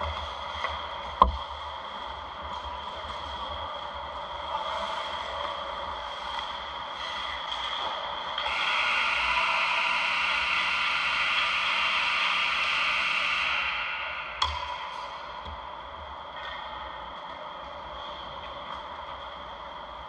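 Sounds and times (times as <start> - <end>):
arena hum: 1.8 - 20.0.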